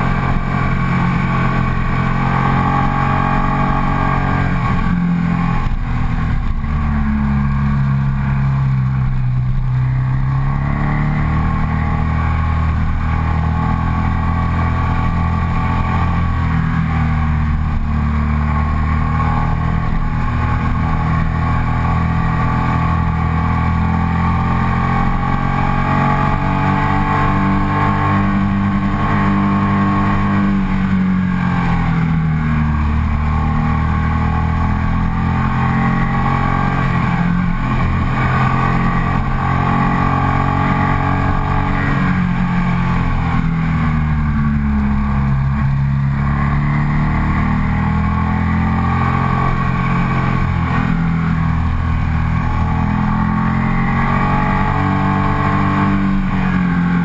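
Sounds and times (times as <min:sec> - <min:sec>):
motorcycle engine pulling uphill: 0:00.0 - 0:57.0.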